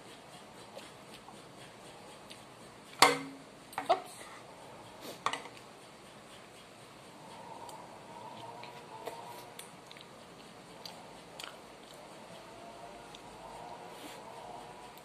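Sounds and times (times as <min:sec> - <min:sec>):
faint eating ticks: 0:00.0 - 0:15.0.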